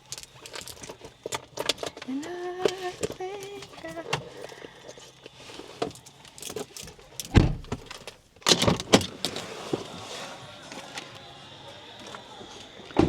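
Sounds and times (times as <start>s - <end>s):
handling clicks and rustles: 0.0s - 13.0s.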